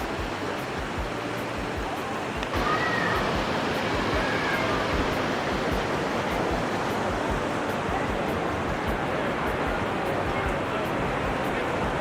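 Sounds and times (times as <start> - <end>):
fast-flowing stream water: 0.0 - 12.0.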